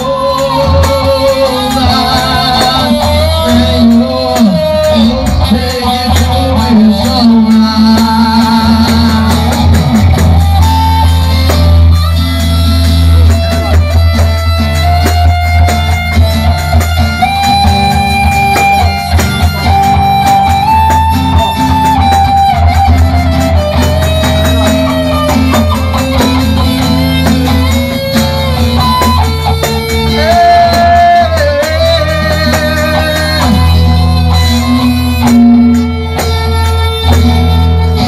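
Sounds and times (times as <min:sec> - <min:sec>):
band playing instrumental: 0:00.0 - 0:38.0.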